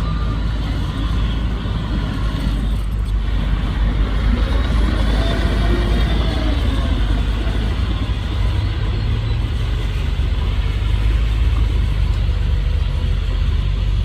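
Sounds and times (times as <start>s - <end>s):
diesel engine rumbling under load: 0.0s - 14.0s.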